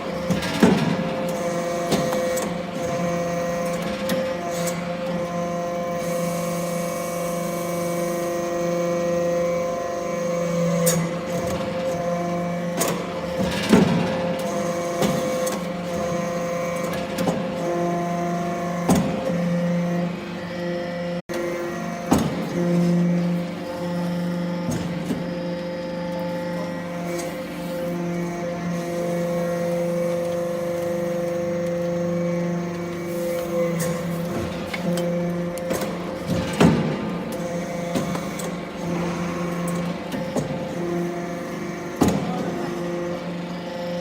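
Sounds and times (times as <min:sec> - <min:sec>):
hydraulic power unit humming: 0:00.0 - 0:44.0.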